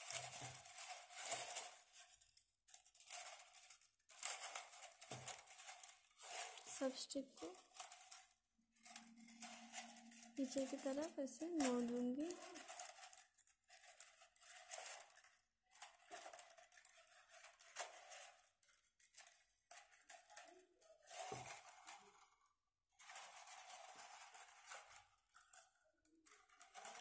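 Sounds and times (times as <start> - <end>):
thin plastic crinkling: 0.0 - 22.4, 23.0 - 27.0.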